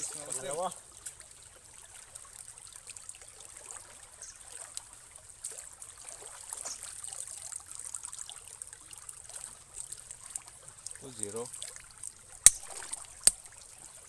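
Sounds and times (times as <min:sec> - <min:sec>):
shallow water splashing: 0:00.0 - 0:14.0.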